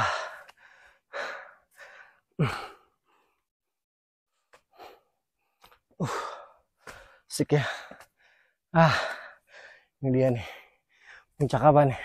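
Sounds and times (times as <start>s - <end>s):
person breathing hard: 0.0s - 3.5s, 4.6s - 11.4s.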